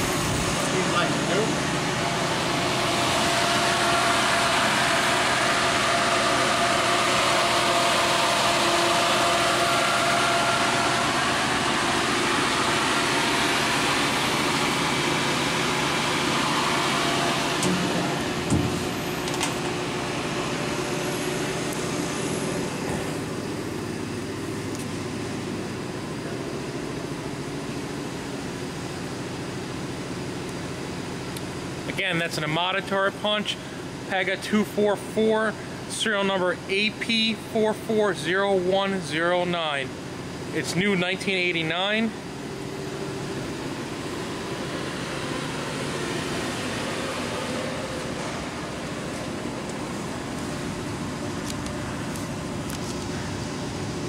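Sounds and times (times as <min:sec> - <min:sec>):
machine whirring hum: 0:00.0 - 0:54.0.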